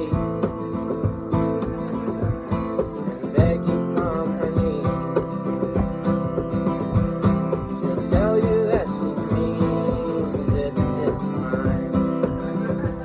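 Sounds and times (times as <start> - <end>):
acoustic guitar country song: 0.0 - 13.0
cajon beat: 0.0 - 13.0.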